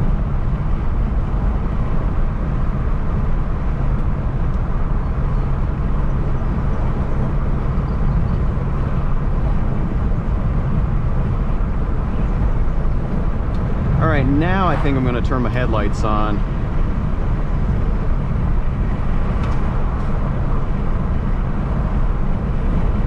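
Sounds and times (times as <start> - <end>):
car engine rumble: 0.0 - 23.0.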